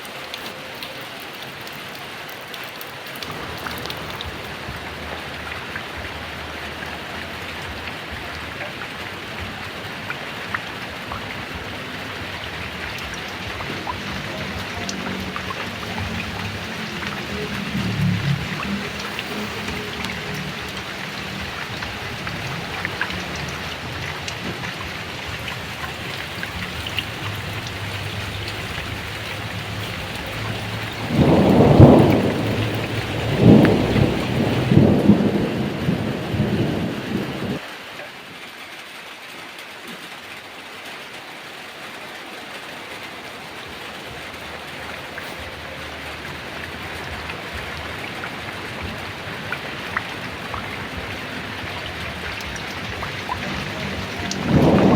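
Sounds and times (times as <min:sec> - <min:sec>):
heavy rain: 0:00.0 - 0:54.9
thunder rumbling: 0:03.2 - 0:37.6, 0:43.5 - 0:54.9.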